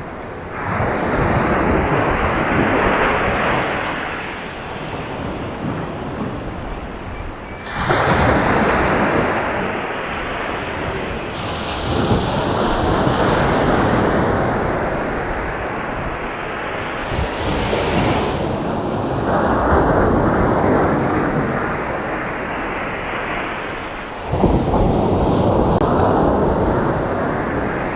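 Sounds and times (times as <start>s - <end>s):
waves breaking on shore: 0.0s - 27.9s
wind on microphone: 0.0s - 27.9s.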